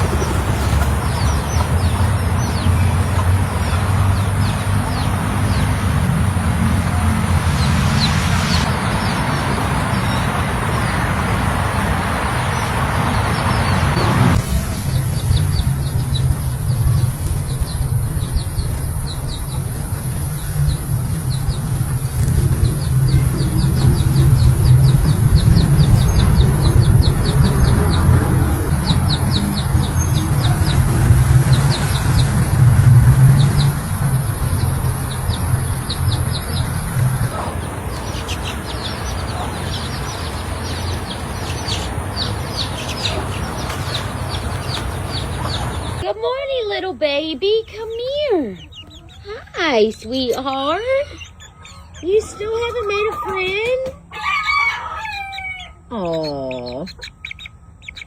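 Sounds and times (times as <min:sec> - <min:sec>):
loud steady rumbling: 0:00.0 - 0:48.7
chicks peeping: 0:00.0 - 0:58.0.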